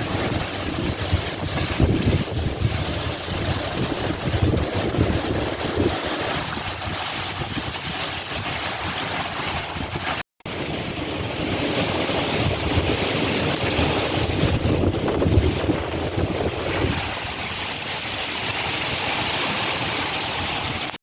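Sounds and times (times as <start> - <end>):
strong wind rushing hiss: 0.0 - 8.7, 9.7 - 20.9
wind buffeting microphone: 0.0 - 20.9.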